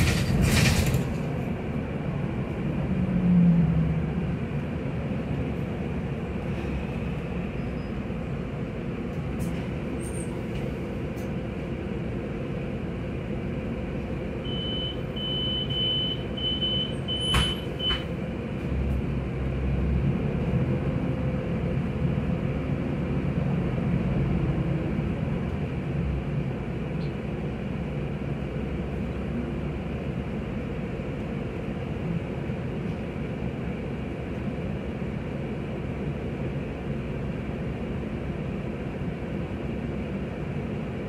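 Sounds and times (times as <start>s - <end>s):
bus engine and road rumble: 0.0s - 41.0s.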